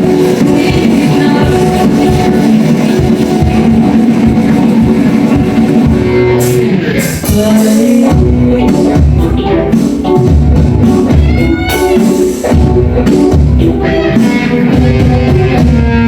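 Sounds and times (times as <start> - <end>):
electric guitars: 0.0 - 16.0
keyboard: 0.0 - 16.0
steady drum beat: 0.0 - 16.0.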